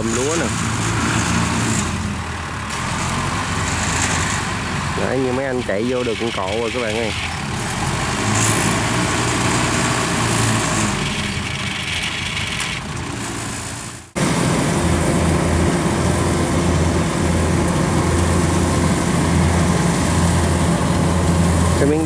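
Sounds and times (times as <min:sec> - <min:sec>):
harvester diesel engine under load: 0:00.0 - 0:22.0
small cart engine running: 0:00.0 - 0:22.0.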